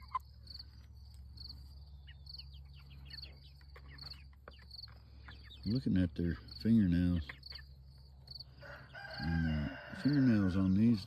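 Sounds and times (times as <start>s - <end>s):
chicks cheeping: 0.0s - 11.0s
cricket chirping: 0.0s - 11.0s.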